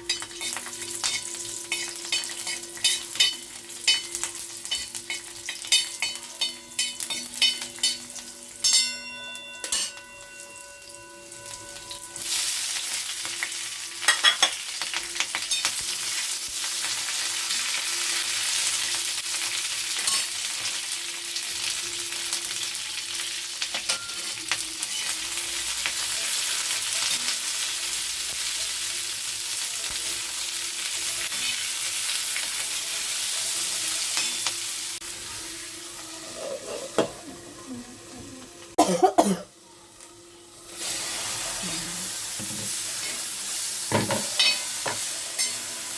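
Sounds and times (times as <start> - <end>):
food sizzling in oil: 0.0 - 38.4, 39.5 - 45.9.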